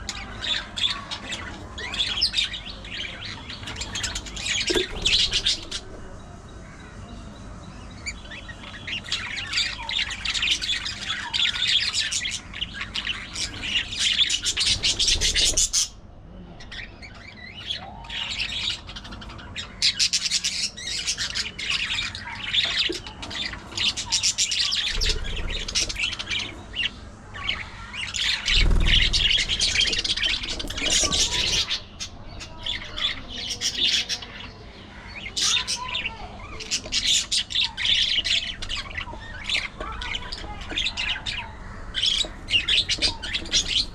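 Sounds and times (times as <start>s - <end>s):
budgies chattering: 0.0s - 43.9s.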